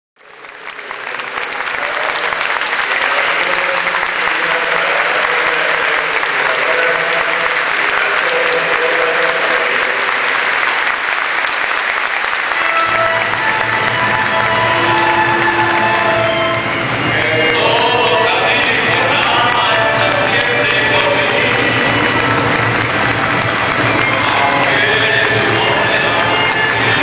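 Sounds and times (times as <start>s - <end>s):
crowd applauding: 0.2s - 27.0s.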